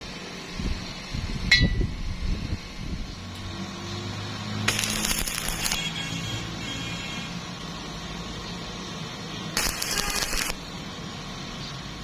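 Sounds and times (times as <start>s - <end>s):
crackling hiss of welding arc: 0.0s - 12.0s.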